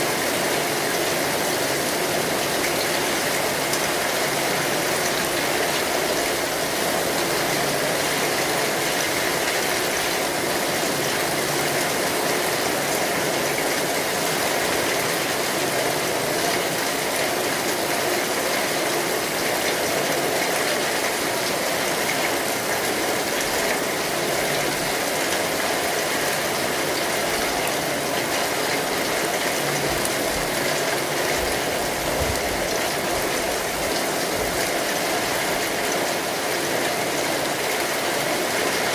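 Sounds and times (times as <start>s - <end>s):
rain falling on an umbrella: 0.0s - 38.9s.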